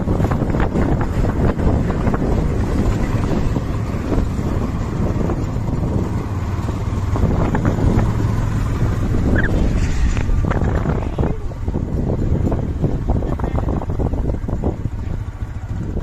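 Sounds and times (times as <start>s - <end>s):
knocks and rattles: 0.0s - 14.9s
heavy diesel machinery running: 0.0s - 16.0s
wind buffeting microphone: 0.0s - 16.0s.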